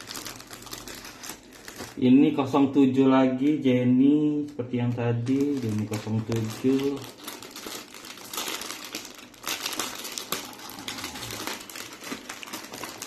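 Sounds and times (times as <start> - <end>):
plastic wrapper crinkling: 0.0 - 2.6, 3.4 - 13.0.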